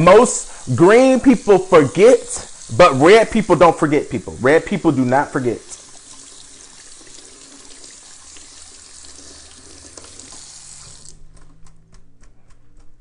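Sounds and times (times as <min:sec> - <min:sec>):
tap water running into sink: 0:00.0 - 0:11.2.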